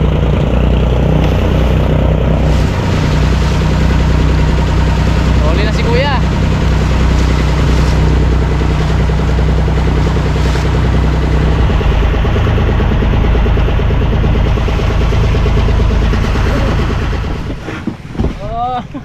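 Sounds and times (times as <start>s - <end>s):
boat engine humming: 0.0s - 19.0s
water rushing: 0.0s - 19.0s
wind: 0.0s - 19.0s.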